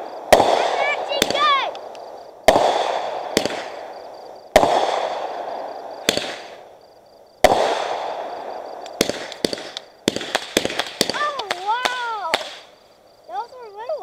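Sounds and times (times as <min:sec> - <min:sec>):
fireworks bangs: 0:00.0 - 0:12.8
fireworks crackling pops: 0:00.0 - 0:12.8.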